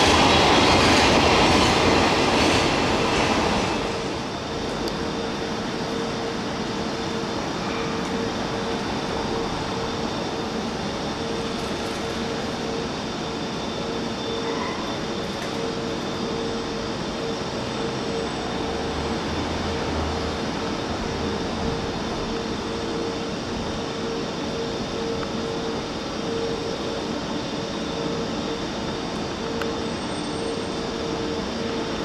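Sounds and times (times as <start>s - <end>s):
constant mid-pitched hum: 4.2s - 32.0s.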